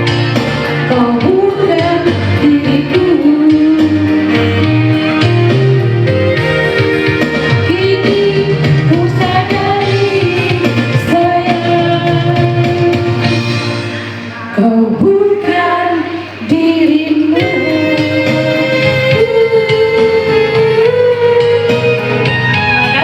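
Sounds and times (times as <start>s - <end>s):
instrumental backing music: 0.0s - 23.0s
person singing: 0.6s - 13.5s, 14.2s - 23.0s.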